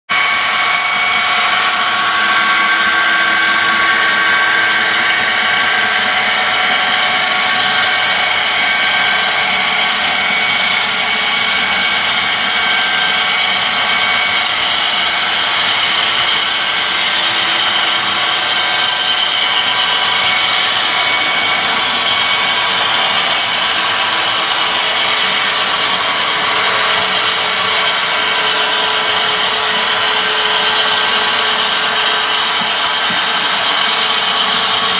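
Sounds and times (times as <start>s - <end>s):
high whine of model locomotives: 0.1s - 34.9s
model train whirring on rails: 0.1s - 34.9s.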